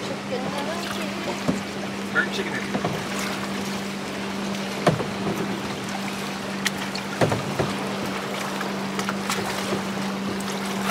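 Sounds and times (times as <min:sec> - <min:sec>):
waves lapping against hull: 0:00.0 - 0:10.9
paddle splashes and knocks: 0:00.4 - 0:10.9.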